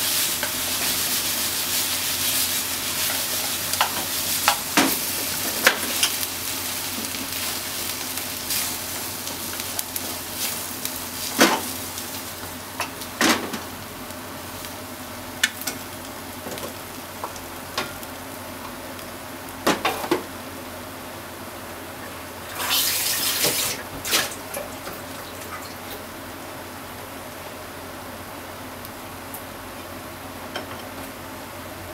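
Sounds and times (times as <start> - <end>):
meat and onion sizzling in a pan: 0.0 - 31.9.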